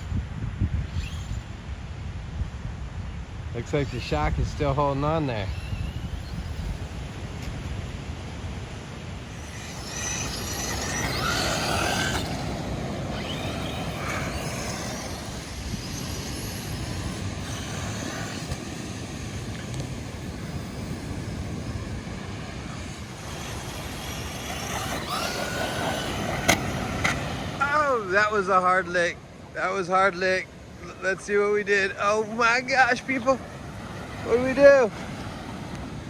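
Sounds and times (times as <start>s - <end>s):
electric motor whining: 0.0s - 2.1s, 3.6s - 8.0s, 8.8s - 28.9s, 30.8s - 36.0s
steady rushing noise: 0.0s - 36.0s.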